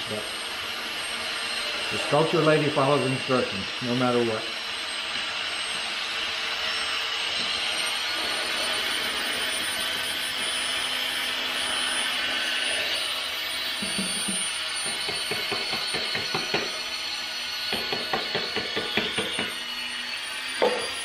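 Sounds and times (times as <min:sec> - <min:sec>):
electric drill mixer whirring: 0:00.0 - 0:21.0.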